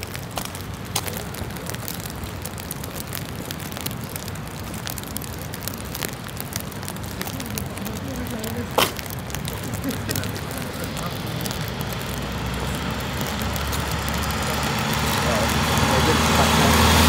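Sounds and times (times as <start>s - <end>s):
sharp raindrop ticks: 0.0s - 17.0s
steady rain: 0.0s - 17.0s.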